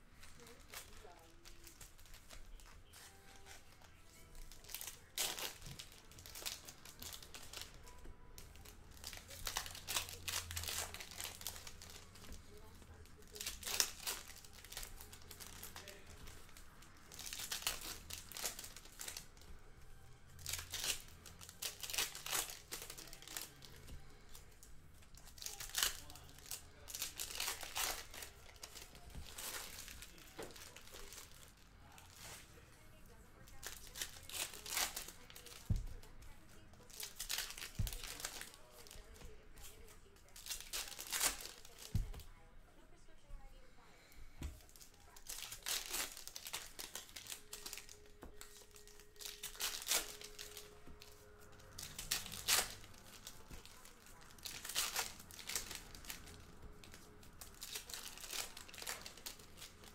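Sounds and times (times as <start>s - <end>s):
foil wrappers crinkling and tearing: 0.1s - 42.4s, 43.6s - 59.9s.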